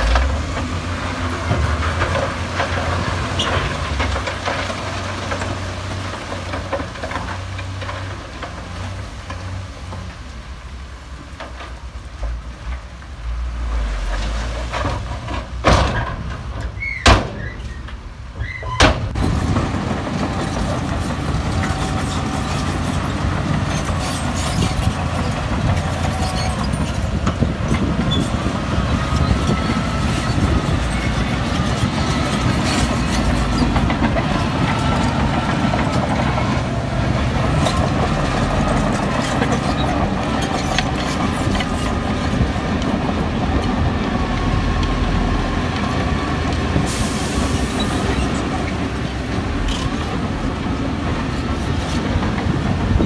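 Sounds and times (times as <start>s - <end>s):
heavy diesel engines rumbling: 0.0s - 53.0s.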